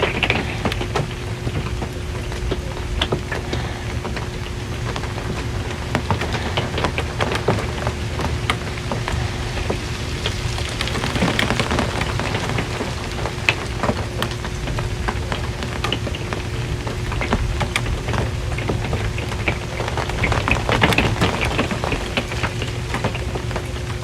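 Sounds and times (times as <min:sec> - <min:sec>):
low hum: 0:00.0 - 0:24.0
rain on a metal roof: 0:00.0 - 0:24.0.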